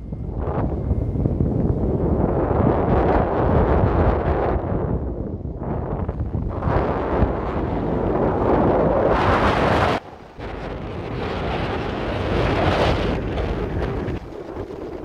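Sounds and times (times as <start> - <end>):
ferry engine low rumble: 0.0 - 15.0
wind buffeting microphone: 0.0 - 15.0.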